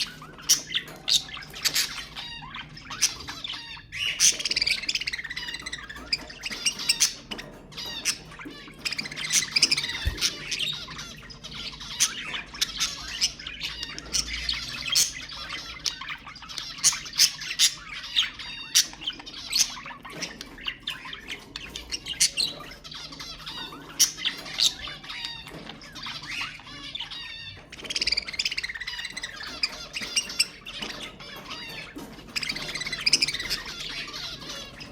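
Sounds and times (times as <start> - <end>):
budgerigars chattering and squawking: 0.0 - 34.9.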